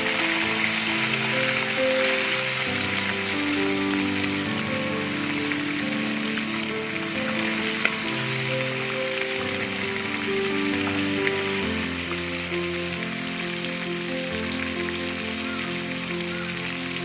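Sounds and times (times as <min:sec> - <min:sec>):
background music melody: 0:00.0 - 0:17.0
fish sizzling in hot oil: 0:00.0 - 0:17.0.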